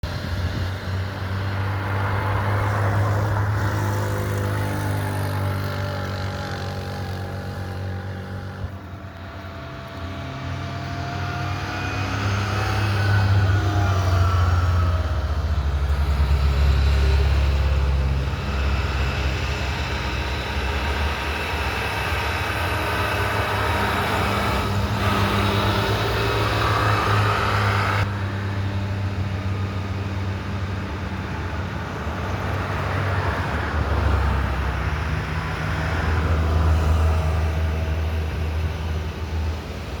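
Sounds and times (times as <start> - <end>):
road and wind noise: 0.0 - 40.0
vehicle engine humming: 0.0 - 40.0.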